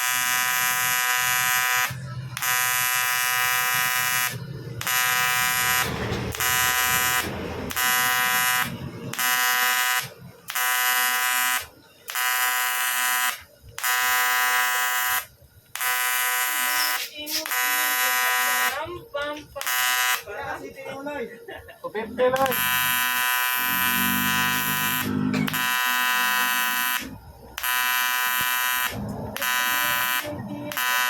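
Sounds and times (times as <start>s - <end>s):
welding arc buzzing: 0.0s - 21.2s, 22.1s - 31.0s.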